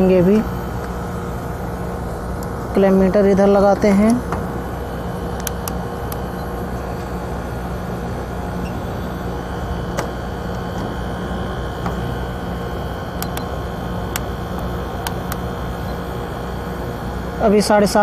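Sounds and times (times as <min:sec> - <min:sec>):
compressor humming: 0:00.0 - 0:18.0
fan whooshing: 0:00.0 - 0:18.0.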